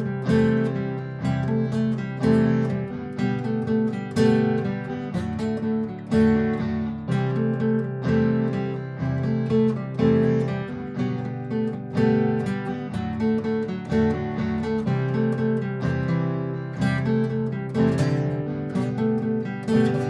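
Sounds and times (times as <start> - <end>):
acoustic guitar strumming: 0.0 - 20.0
looped guitar part: 0.0 - 20.0
picked guitar notes: 0.0 - 20.0.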